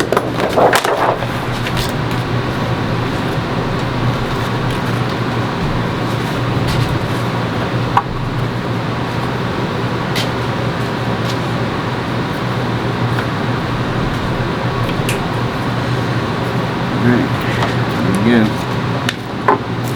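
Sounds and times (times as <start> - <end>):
machine drone with low hum: 0.0 - 19.9.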